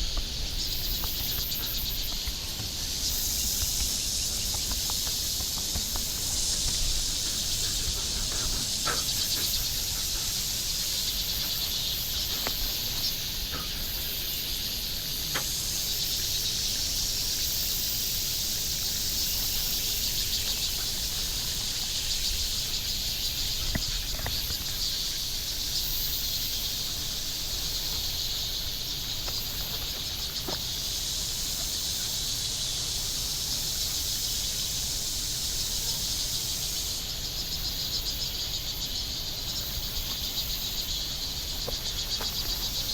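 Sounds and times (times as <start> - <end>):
insects chorus: 0.0 - 42.9.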